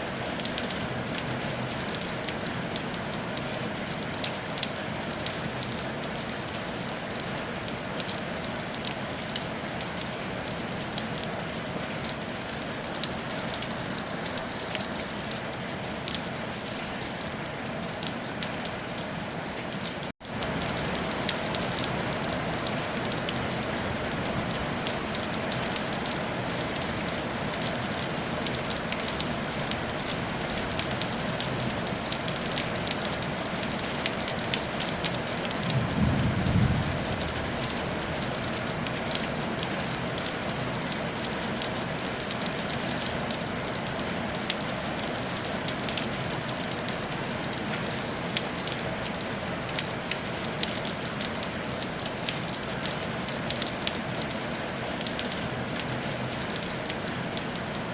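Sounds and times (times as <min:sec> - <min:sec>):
rain on a tile roof: 0:00.0 - 0:57.9.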